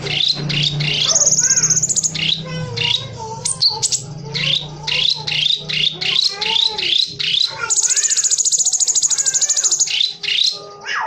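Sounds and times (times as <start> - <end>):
bird high buzzing trill: 0.0 - 10.8.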